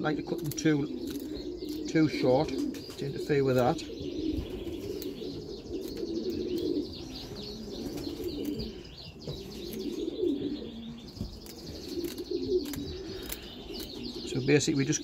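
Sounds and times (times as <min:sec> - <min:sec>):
pigeons cooing: 0:00.0 - 0:15.0
high chirping: 0:00.8 - 0:15.0.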